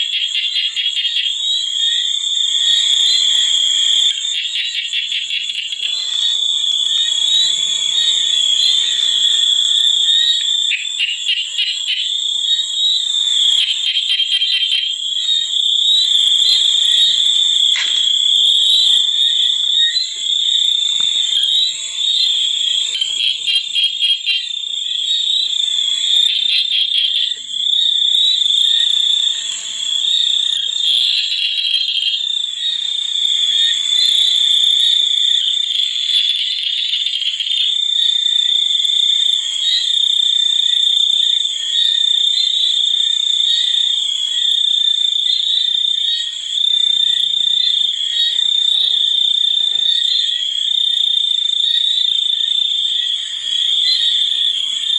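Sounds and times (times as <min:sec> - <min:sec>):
frogs and insects calling: 0:00.0 - 0:54.9.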